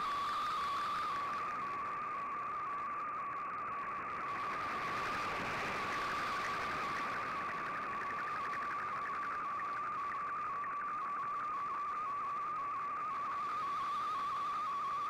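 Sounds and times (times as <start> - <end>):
shortwave static hiss: 0.0 - 15.0.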